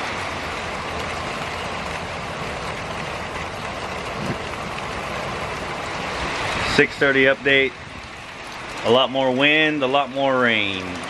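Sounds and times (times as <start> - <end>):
heavy rain and wind: 0.0 - 11.0.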